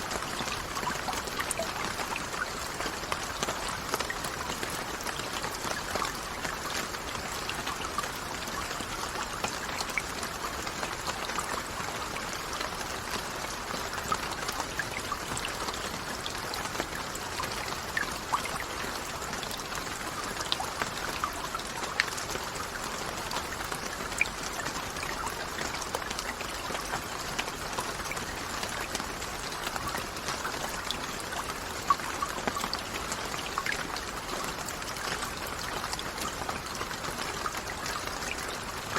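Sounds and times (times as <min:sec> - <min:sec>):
raindrops ticking: 0:00.0 - 0:38.9
steady rainfall: 0:00.0 - 0:38.9.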